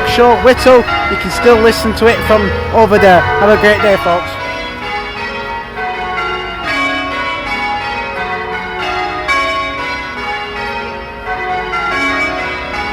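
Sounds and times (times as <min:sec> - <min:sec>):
church bells pealing: 0:00.0 - 0:12.9.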